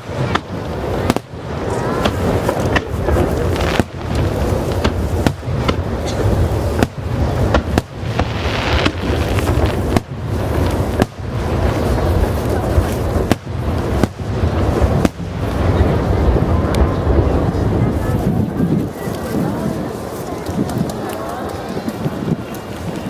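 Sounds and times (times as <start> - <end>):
fireworks booming: 0.0 - 19.1
low rumble: 0.0 - 19.1
hissing crackle: 0.0 - 23.0.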